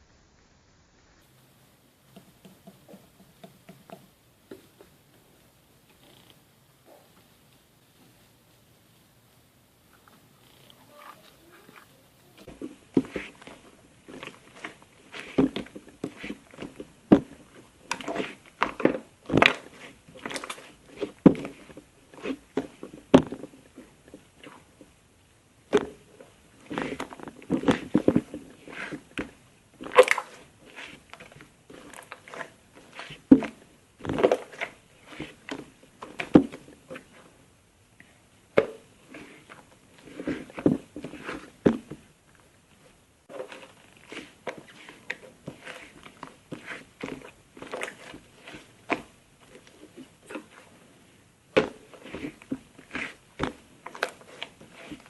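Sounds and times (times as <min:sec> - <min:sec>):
slime squelching: 0:10.7 - 0:55.0.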